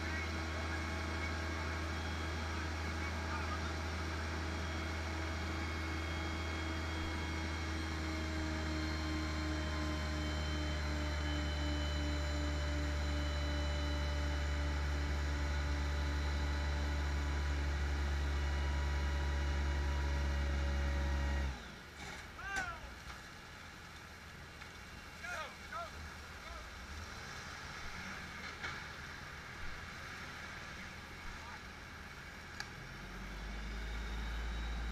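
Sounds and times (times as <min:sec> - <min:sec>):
faint steady whining tones: 0:00.0 - 0:34.9
fire engine motor droning: 0:00.0 - 0:34.9.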